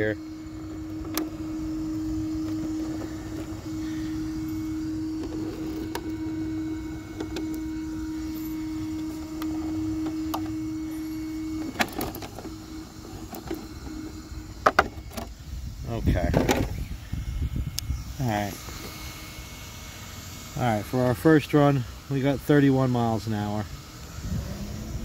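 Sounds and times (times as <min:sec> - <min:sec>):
small electric fan humming: 0:00.0 - 0:25.0.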